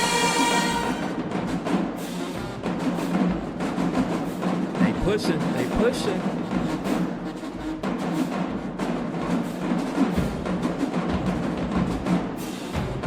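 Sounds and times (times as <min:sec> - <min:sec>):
drumline hits: 0:00.0 - 0:13.0
marching band brass: 0:00.0 - 0:13.0.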